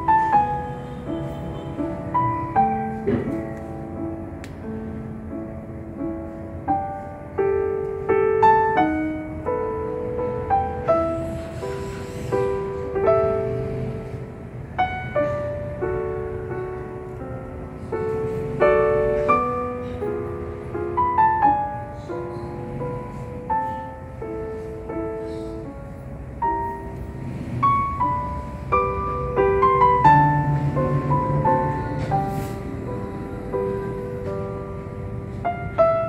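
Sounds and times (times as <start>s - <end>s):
slow piano music: 0.0s - 36.0s.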